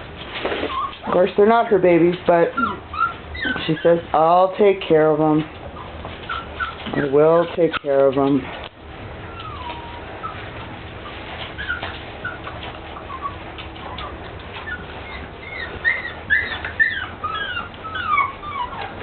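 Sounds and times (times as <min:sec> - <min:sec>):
puppies whimpering: 0:00.4 - 0:19.0.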